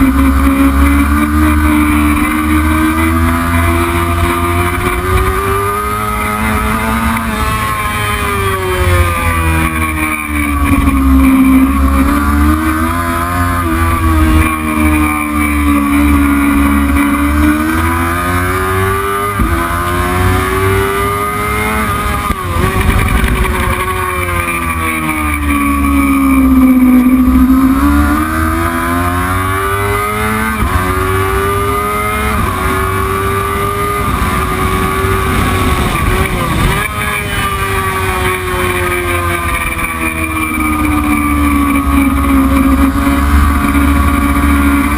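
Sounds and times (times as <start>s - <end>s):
racing motorcycle engine revving: 0.0s - 44.9s.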